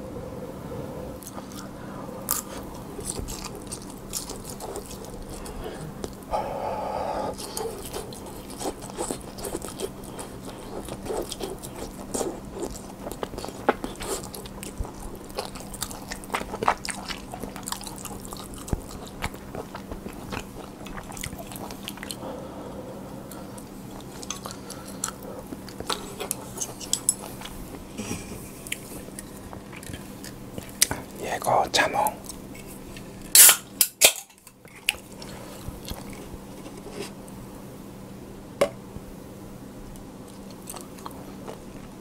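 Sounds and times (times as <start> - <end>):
open-mouth chewing: 1.2 - 22.6, 23.2 - 33.1, 34.4 - 37.1, 40.2 - 42.0.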